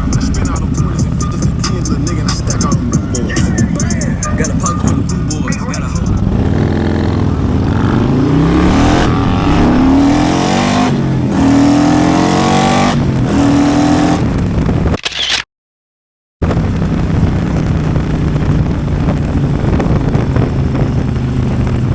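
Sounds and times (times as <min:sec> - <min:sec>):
motorcycle engine accelerating: 0:00.0 - 0:14.9, 0:16.4 - 0:21.9.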